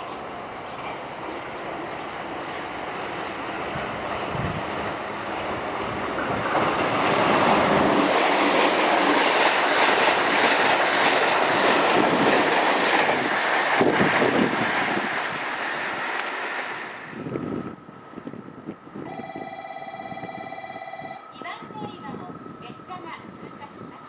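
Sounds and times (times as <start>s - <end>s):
train passing at speed: 0.0s - 19.4s.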